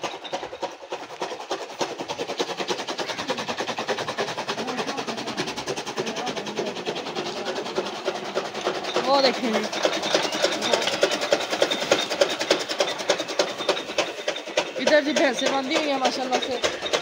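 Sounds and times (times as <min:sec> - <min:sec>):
chaff cutter clattering: 0:00.0 - 0:17.0.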